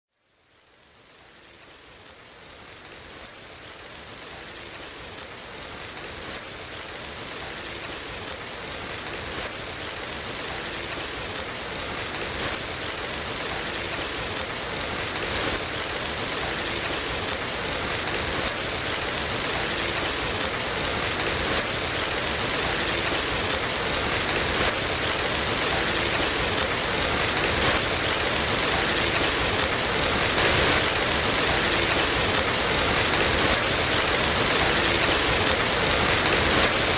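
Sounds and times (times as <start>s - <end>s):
steady dense rainfall: 0.1s - 36.9s.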